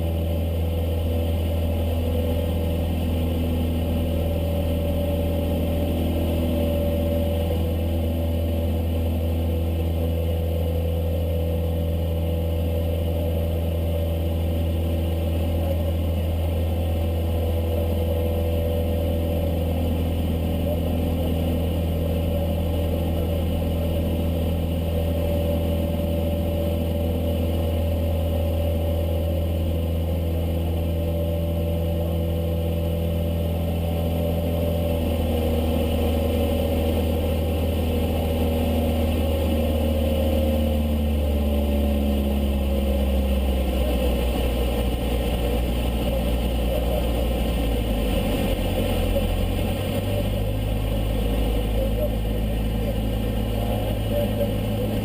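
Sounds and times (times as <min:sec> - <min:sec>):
airplane engine and propeller droning: 0:00.0 - 0:55.0.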